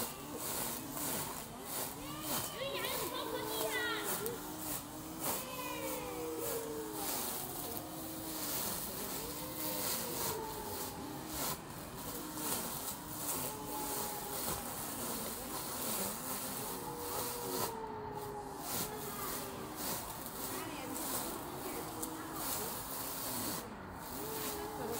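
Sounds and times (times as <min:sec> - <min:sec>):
electric grass trimmer whine: 0:00.0 - 0:24.9.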